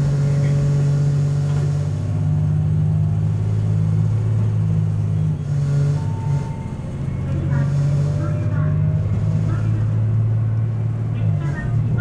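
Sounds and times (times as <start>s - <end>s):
diesel railcar engine drone: 0.0s - 12.0s.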